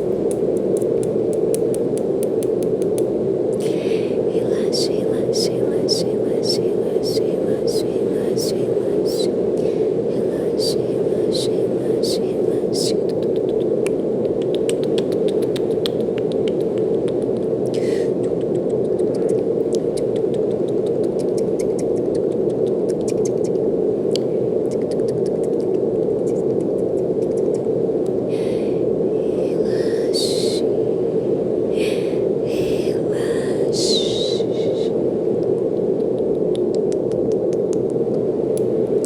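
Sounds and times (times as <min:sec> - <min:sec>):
brown noise hiss: 0:00.0 - 0:39.0.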